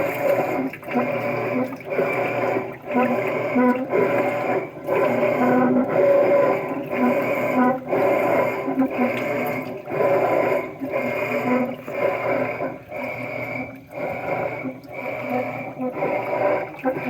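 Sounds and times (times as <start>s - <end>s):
rhythmic grinding noise: 0.0s - 17.0s
washing machine running: 0.0s - 17.0s.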